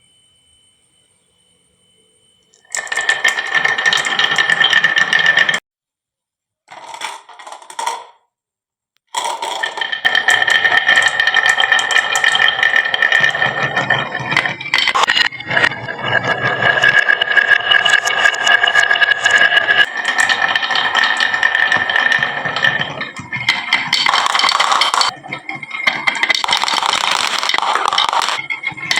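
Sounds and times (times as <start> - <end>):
marbles rattling down wooden run: 2.7 - 5.6, 6.7 - 8.1, 9.1 - 28.9.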